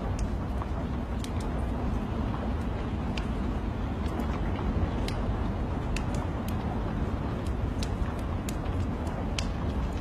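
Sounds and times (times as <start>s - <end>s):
log fire crackling: 0.0s - 10.0s
rain: 0.0s - 10.0s.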